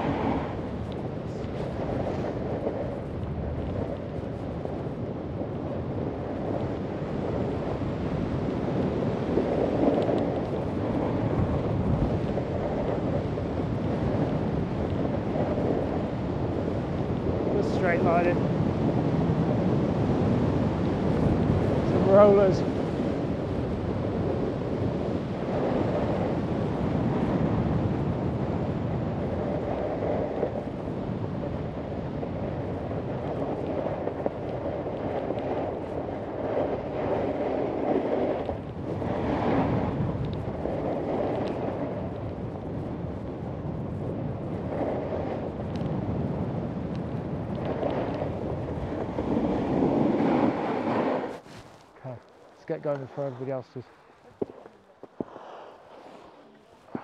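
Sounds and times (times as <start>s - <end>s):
snowboard scraping over snow: 0.0s - 57.0s
wind rushing over microphone: 0.0s - 57.0s.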